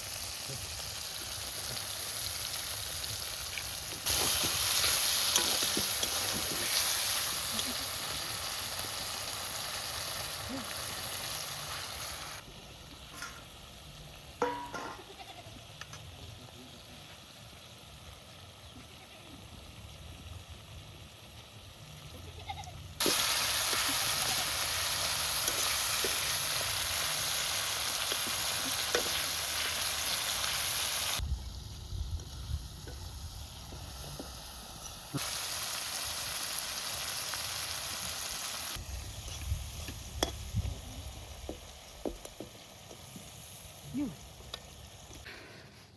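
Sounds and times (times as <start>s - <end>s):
curry sizzling in a pan: 0.0s - 45.2s.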